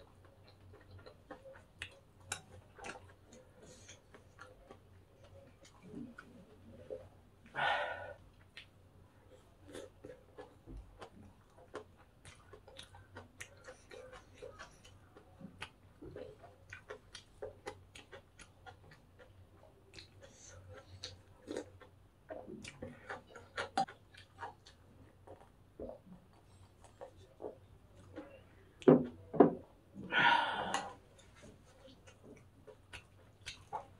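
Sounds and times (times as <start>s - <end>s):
chewing crunchy food: 0.0s - 7.6s, 8.2s - 33.9s.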